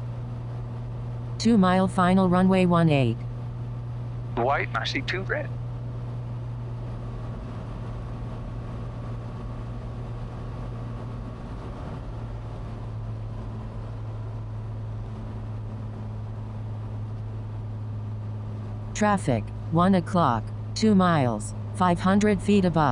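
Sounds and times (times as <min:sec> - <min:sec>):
propeller plane engine droning: 0:00.0 - 0:22.9.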